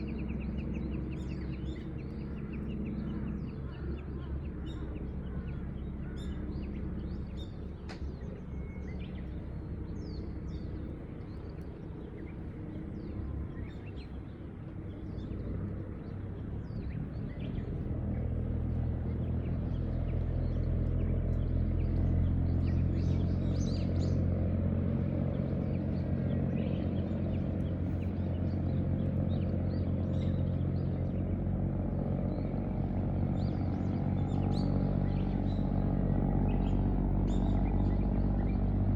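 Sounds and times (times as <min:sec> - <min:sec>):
birds chirping: 0:00.0 - 0:38.9
low engine drone: 0:00.0 - 0:38.9.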